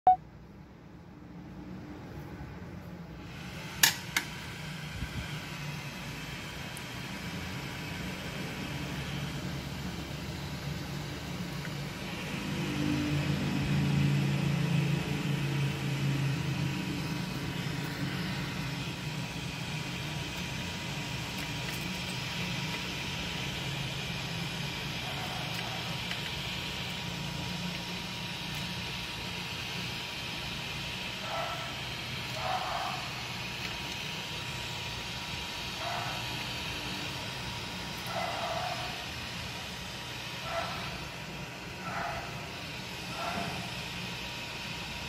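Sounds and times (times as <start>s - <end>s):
computer fans whirring: 0.1s - 45.0s.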